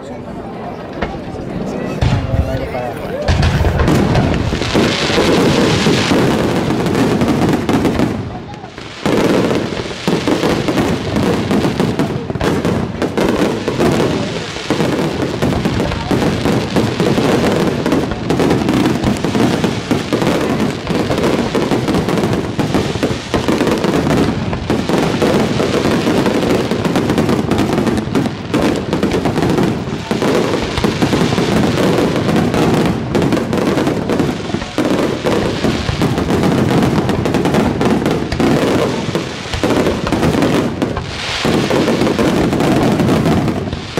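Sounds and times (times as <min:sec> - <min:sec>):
fireworks barrage: 0:00.9 - 0:43.9.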